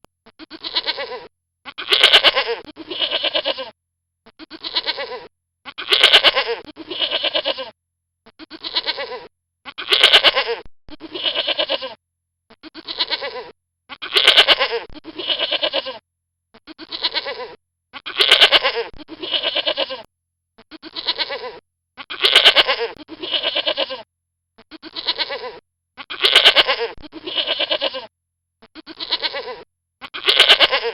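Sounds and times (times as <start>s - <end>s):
goat bleating: 0.3s - 30.9s.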